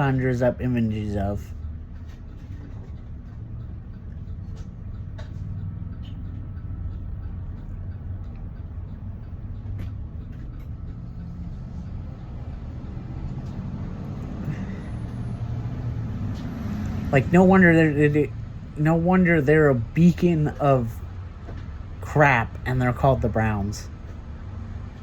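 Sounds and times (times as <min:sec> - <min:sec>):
low vehicle rumble: 0:00.0 - 0:25.0.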